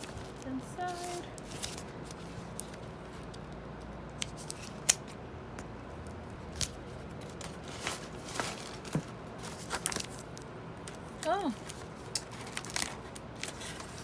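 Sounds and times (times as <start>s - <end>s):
package rustling: 0.0s - 3.5s, 4.2s - 5.2s, 6.0s - 14.0s.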